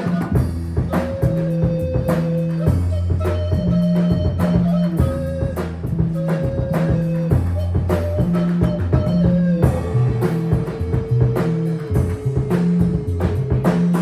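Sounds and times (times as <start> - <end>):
bass guitar low notes: 0.0 - 14.0
drum kit steady beat: 0.0 - 14.0
guitar: 0.0 - 14.0.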